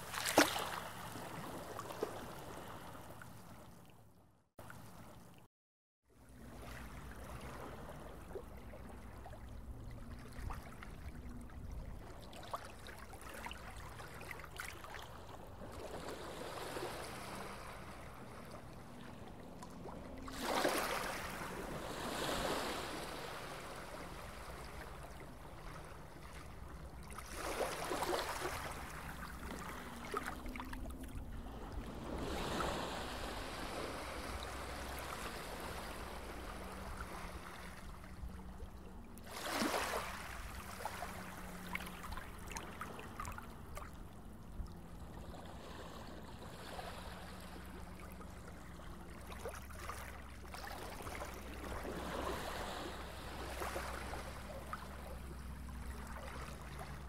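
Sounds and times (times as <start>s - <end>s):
steady water-like rushing: 0.0s - 4.0s, 6.2s - 57.0s.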